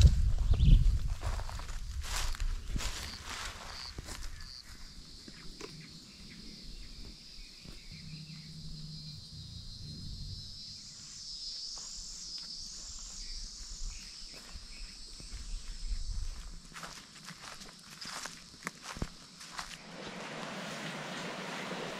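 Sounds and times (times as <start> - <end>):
insects high trill: 0.4 - 21.9
higher rising and falling insect call: 2.2 - 21.9.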